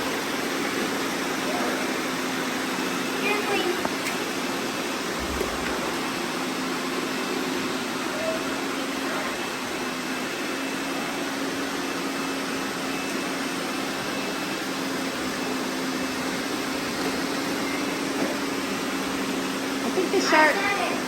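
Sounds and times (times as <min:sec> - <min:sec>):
robot vacuum cleaners whirring: 0:00.0 - 0:21.0.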